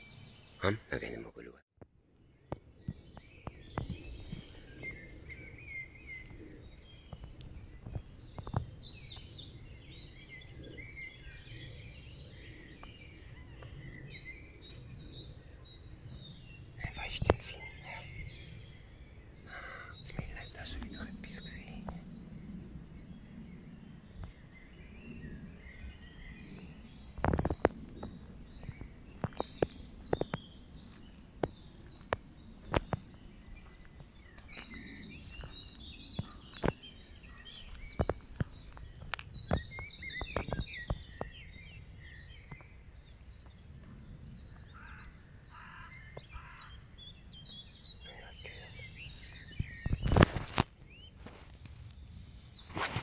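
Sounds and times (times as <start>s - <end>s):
birds chirping and singing: 0.0s - 1.6s, 2.4s - 53.0s.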